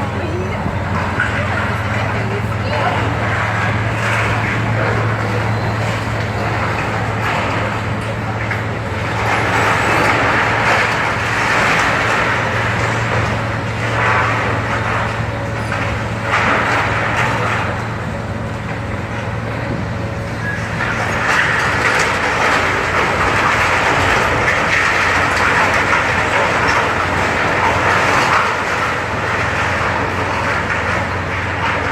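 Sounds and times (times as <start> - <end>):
grinding and crunching: 0.0 - 31.9
low engine drone: 0.0 - 31.9.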